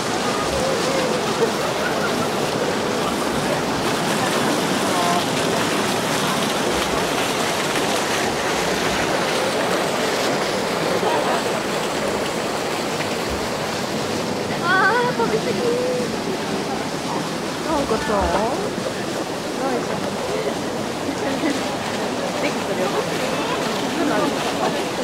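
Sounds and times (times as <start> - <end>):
crowd chatter: 0.0 - 25.0.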